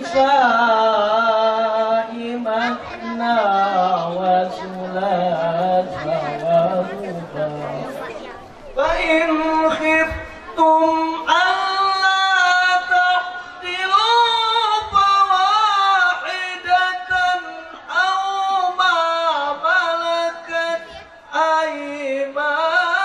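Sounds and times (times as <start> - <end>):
man chanting melodically: 0.0 - 8.1, 8.8 - 23.0.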